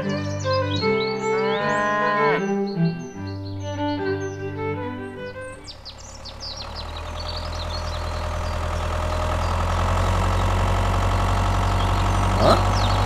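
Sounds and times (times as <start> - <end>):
birds chirping: 0.0 - 13.0
tractor engine running: 0.0 - 13.0.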